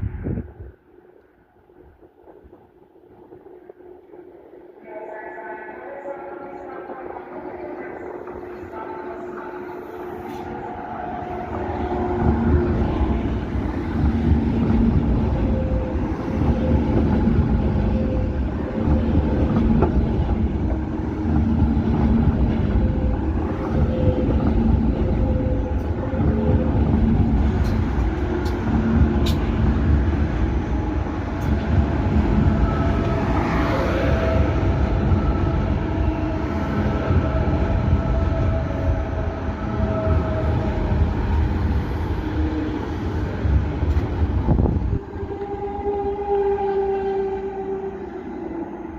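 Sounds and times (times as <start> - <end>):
train wheels rumbling on rails: 6.7 - 48.9.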